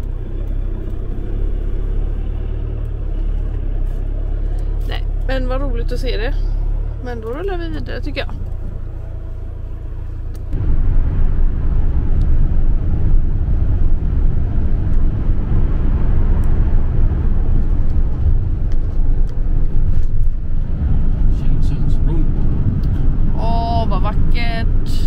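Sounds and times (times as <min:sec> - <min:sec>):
van engine and tyre rumble: 0:00.0 - 0:25.0.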